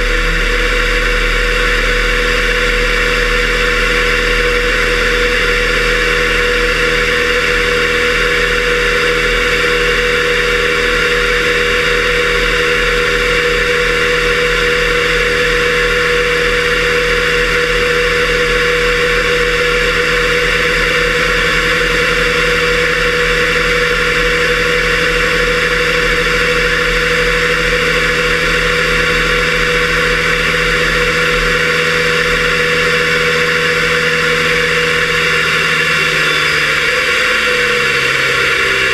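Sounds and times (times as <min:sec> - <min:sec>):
engine vibration: 0:00.0 - 0:38.9
muffled jet engine idling: 0:00.0 - 0:38.9.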